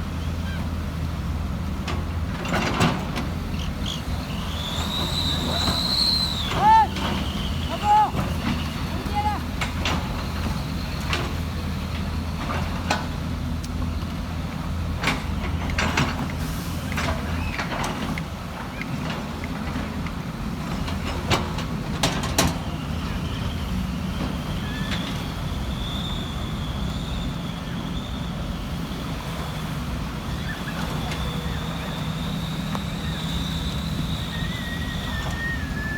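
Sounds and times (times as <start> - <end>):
diesel earthmoving machinery running: 0.0 - 35.9.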